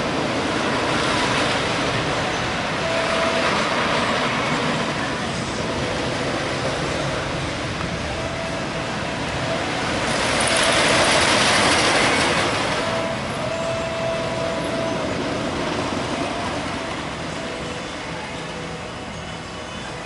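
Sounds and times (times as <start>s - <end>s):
wooden roller coaster passing: 0.0s - 20.0s.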